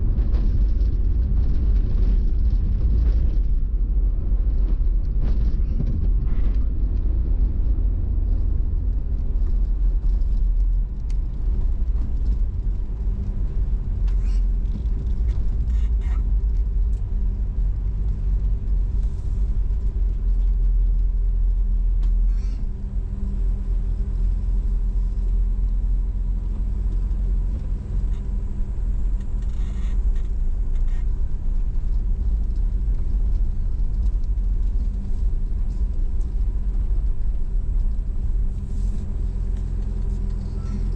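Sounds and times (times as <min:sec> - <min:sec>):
car engine and road rumble: 0:00.0 - 0:40.9
faint hum: 0:00.0 - 0:40.9.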